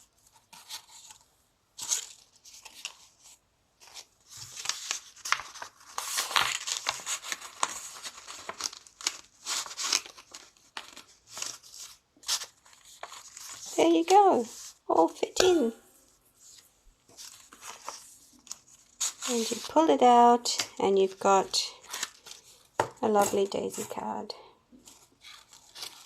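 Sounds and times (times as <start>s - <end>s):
paper rustling and crinkling: 0.0s - 24.0s, 24.7s - 26.0s.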